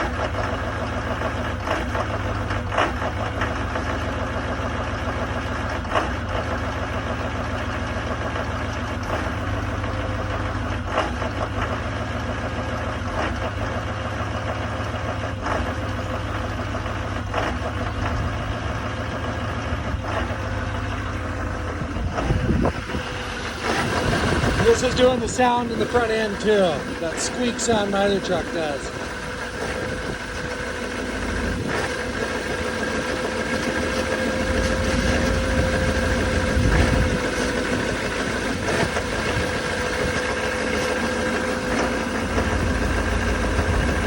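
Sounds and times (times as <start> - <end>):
diesel engine idling rough: 0.0 - 44.0
engine knocking: 0.0 - 44.0.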